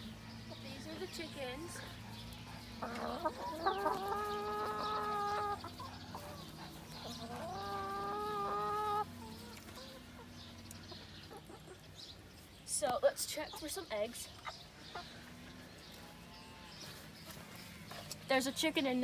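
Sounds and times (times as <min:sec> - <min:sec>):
hens calling: 0:00.0 - 0:19.0
hens clucking: 0:00.0 - 0:19.0.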